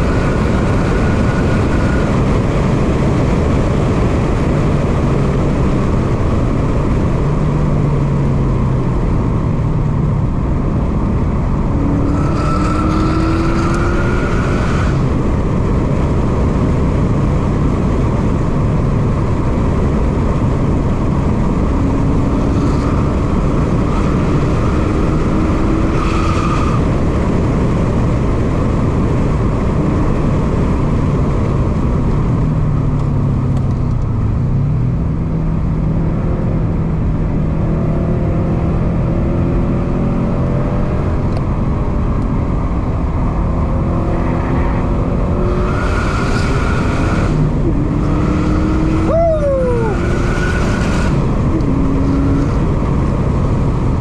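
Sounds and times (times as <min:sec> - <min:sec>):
car engine in cabin: 0:00.0 - 0:54.0
road noise: 0:00.0 - 0:54.0.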